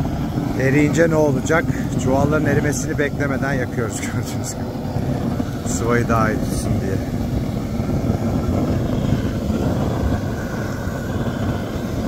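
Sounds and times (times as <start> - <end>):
gas torch flame rushing: 0.0 - 12.0.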